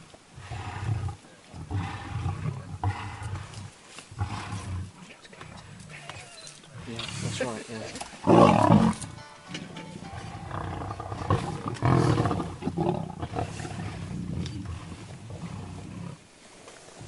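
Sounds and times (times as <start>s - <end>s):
lions growling and snarling: 0.3s - 9.1s, 10.4s - 17.0s.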